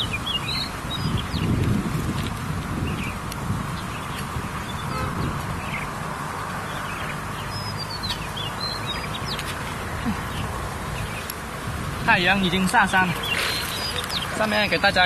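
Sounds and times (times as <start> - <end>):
birds chirping: 0.0 - 15.0
outdoor background hiss: 0.0 - 15.0.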